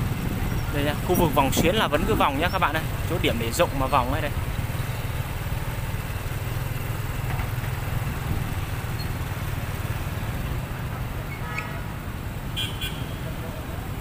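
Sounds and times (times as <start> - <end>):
cars and motorbikes driving past: 0.0 - 14.0
low engine rumble: 0.0 - 14.0.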